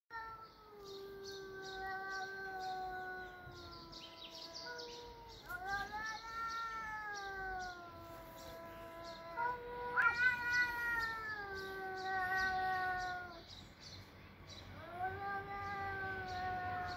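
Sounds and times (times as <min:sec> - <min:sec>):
cats yowling: 0:00.1 - 0:13.5, 0:14.7 - 0:16.9.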